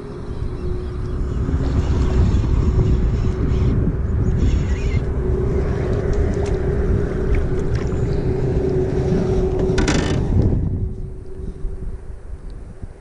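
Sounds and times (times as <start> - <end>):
steady hum: 0.0 - 13.0
wind buffeting microphone: 0.0 - 13.0.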